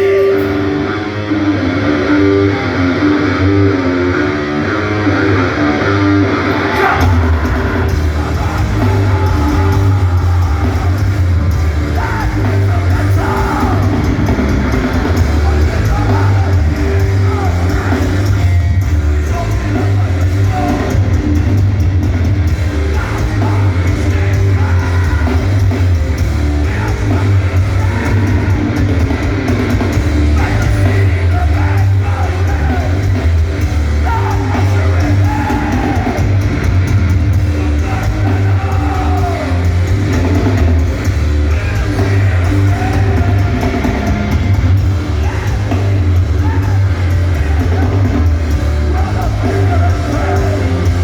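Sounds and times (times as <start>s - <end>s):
hardcore punk band playing: 0.0s - 51.0s.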